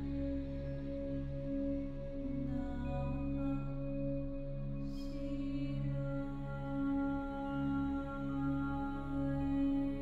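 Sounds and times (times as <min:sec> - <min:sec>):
ambient singing bowl tones: 0:00.0 - 0:10.0.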